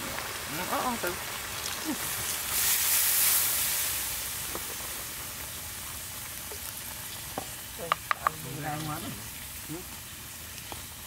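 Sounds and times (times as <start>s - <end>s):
liquid bubbling and sizzling: 0.0s - 11.0s.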